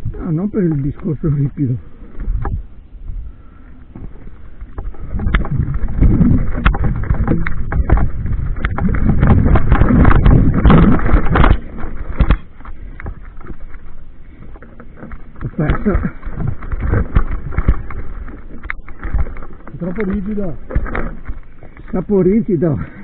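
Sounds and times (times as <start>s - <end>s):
wind buffeting microphone: 0.0s - 23.0s
bike frame rattling: 3.8s - 23.0s
tyres rumbling over stones: 3.8s - 23.0s.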